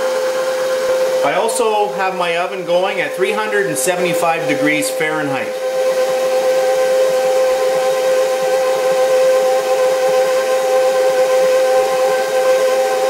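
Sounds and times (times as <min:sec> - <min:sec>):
stand mixer whine: 0:00.0 - 0:13.0.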